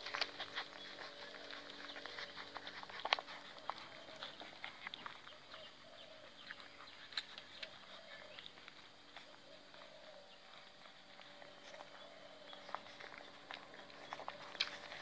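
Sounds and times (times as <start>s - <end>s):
puppies suckling wet smacking: 0.0s - 15.0s.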